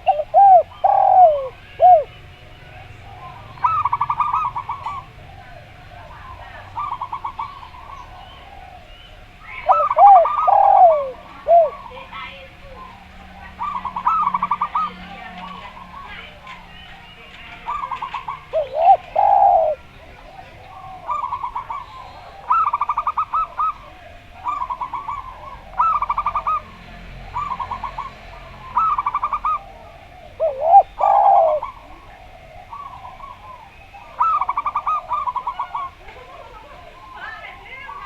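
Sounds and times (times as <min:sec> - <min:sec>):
low swooping dove coo: 0:00.0 - 0:16.4, 0:17.7 - 0:26.7, 0:27.4 - 0:38.0
dove cooing in staccato notes: 0:00.0 - 0:38.0.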